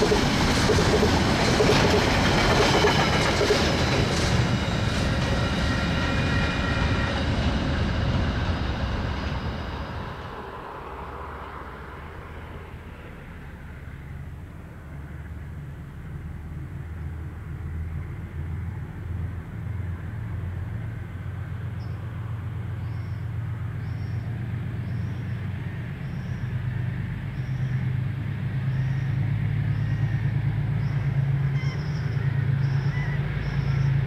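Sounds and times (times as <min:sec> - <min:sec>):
diesel locomotive engine: 0:00.0 - 0:34.0.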